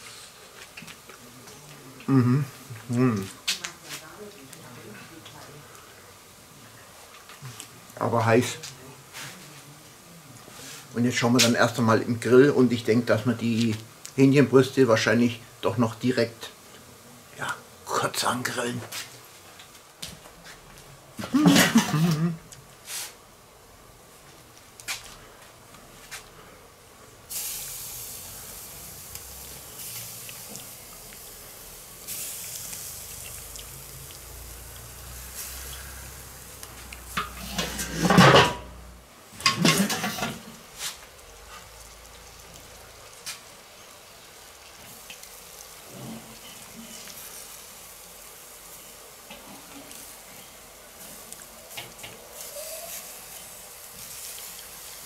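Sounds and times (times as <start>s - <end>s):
chicken sizzling on grill: 0.0s - 55.0s.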